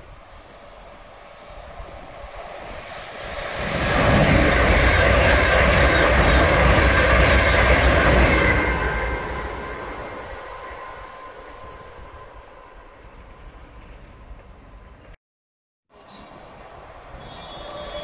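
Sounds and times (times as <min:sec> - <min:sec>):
train passing at speed: 0:00.0 - 0:15.2, 0:16.0 - 0:18.0.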